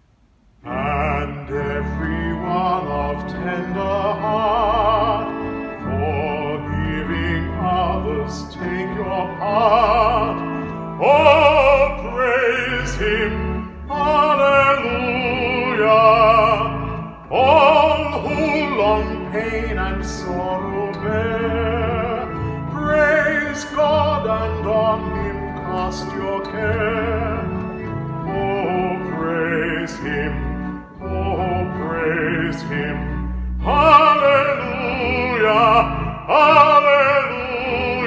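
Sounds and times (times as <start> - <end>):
church organ chords: 0.6 - 38.0
man singing operatically: 0.6 - 38.0.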